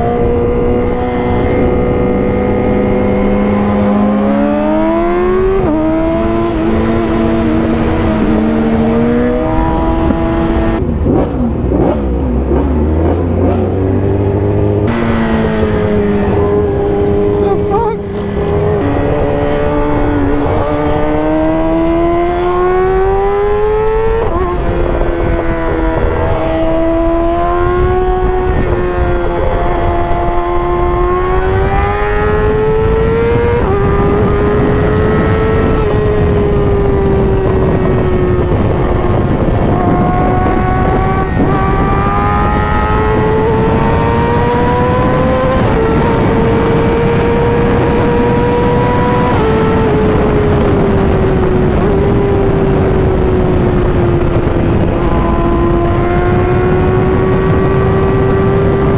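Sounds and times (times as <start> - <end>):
motorcycle engine revving: 0.0 - 58.9
wind rush: 0.0 - 58.9.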